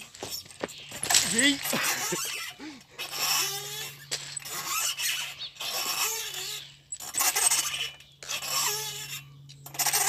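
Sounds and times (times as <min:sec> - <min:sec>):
swing chains squeaking: 0:00.0 - 0:10.0.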